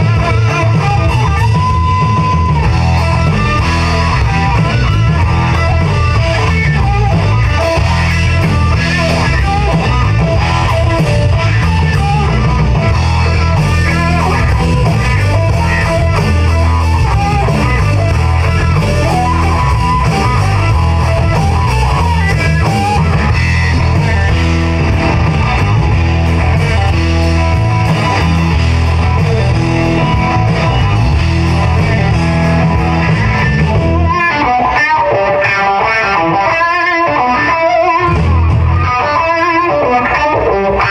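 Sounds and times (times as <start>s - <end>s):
strong bass: 0.0s - 35.5s, 36.1s - 39.8s
electric guitar: 0.0s - 40.9s
live rock band playing: 0.0s - 40.9s.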